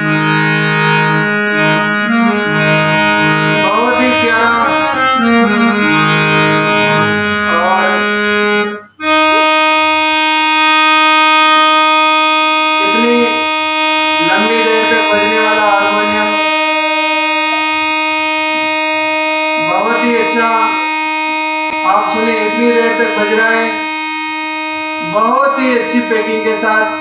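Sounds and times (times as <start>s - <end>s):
harmonium playing: 0.0s - 27.0s.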